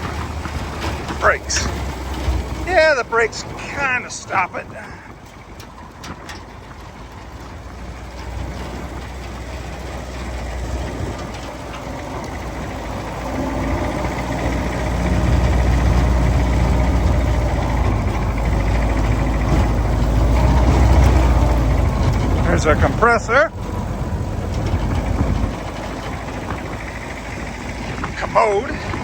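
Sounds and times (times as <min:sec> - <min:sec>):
jeep engine running: 0:00.0 - 0:29.0.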